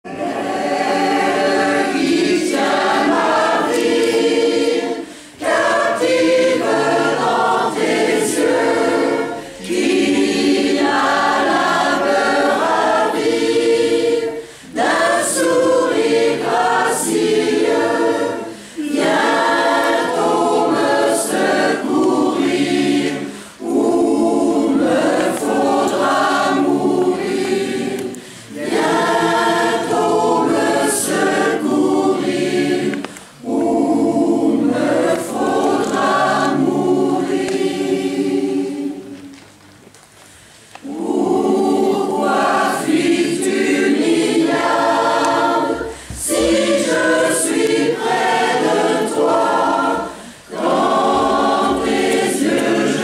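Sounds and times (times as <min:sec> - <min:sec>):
mixed choir singing: 0:00.0 - 0:39.4, 0:40.8 - 0:53.0.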